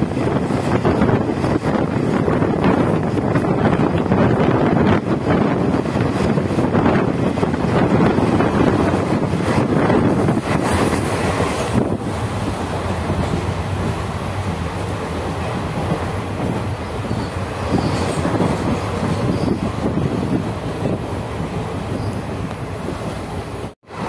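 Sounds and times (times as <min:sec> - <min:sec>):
train wheels on track: 0:00.0 - 0:24.0.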